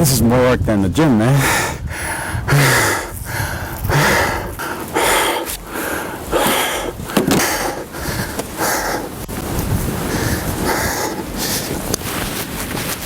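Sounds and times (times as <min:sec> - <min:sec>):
man breathing hard: 0:01.2 - 0:12.2.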